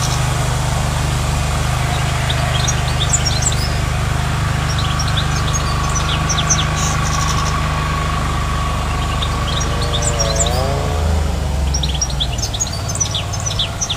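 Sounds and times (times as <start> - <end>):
goldfinch twittering: 0.0 - 13.9
steady low hum: 0.0 - 13.9.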